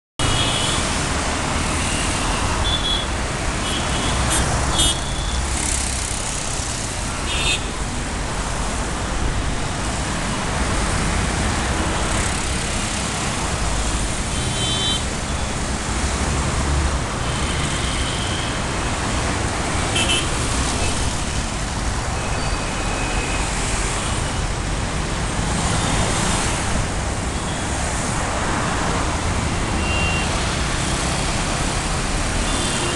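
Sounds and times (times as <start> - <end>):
road traffic rumble: 0.2 - 32.9.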